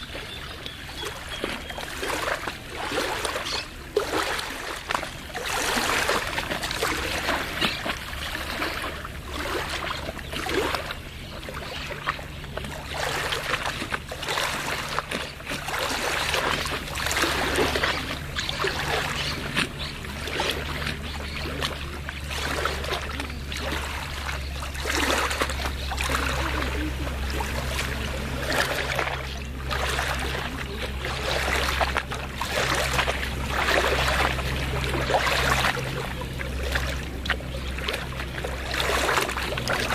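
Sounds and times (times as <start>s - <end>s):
small waves lapping: 0.0s - 39.9s
steady low hum: 0.0s - 39.9s.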